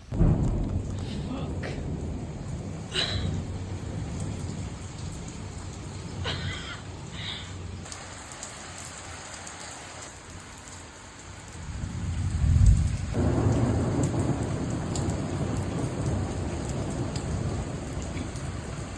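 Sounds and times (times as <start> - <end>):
thunder rumbling: 0.0 - 7.9, 11.5 - 18.9
steady rain: 0.0 - 18.9.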